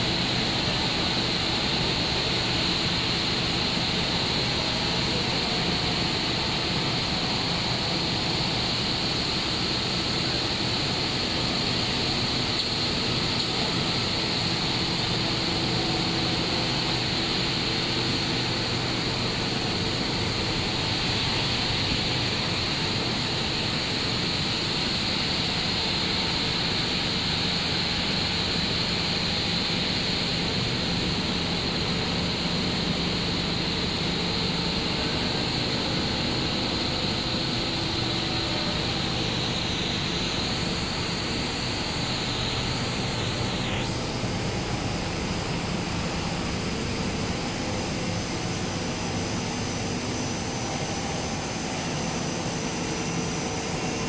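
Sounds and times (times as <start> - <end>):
high-pitched hiss: 0.0 - 54.0.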